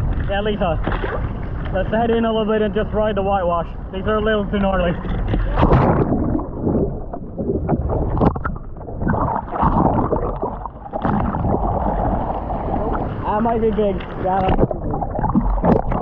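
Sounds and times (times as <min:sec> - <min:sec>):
seawater sloshing and splashing: 0:00.0 - 0:01.8, 0:04.7 - 0:16.0
wind on microphone: 0:00.0 - 0:16.0.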